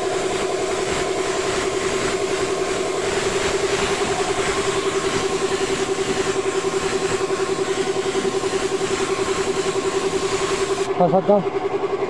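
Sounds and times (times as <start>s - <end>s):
air compressor humming and hissing: 0.0s - 12.0s.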